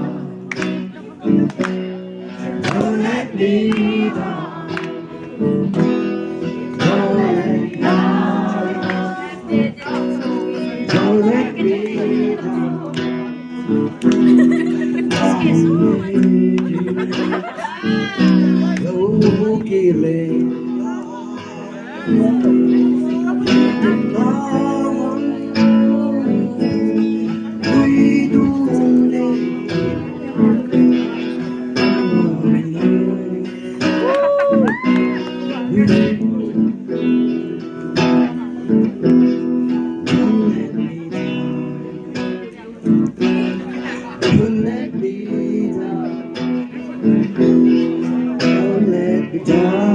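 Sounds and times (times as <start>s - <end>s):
person singing: 0.0s - 49.9s
strummed acoustic guitar: 0.0s - 49.9s.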